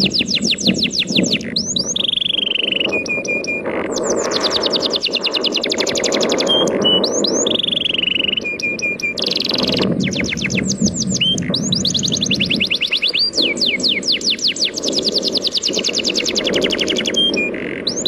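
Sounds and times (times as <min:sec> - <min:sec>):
songbird trilling: 0:00.0 - 0:18.0.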